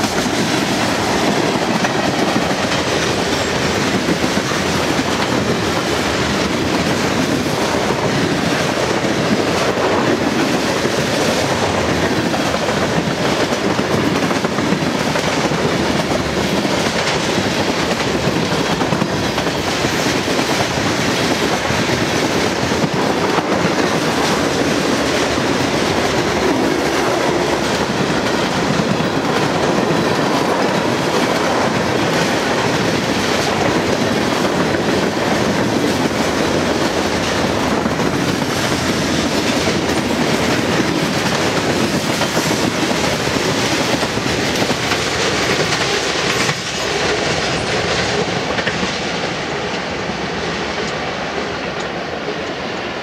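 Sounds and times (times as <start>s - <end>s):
clickety-clack over rail joints: 0.0s - 53.0s
train wheels rumbling on rails: 0.0s - 53.0s.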